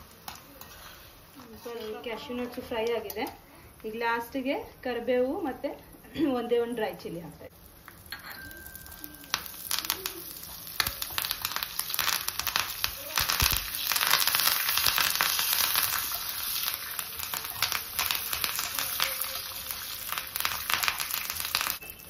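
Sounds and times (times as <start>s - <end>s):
leaves and chilli crackling in hot oil: 0.0s - 5.7s, 6.8s - 22.0s.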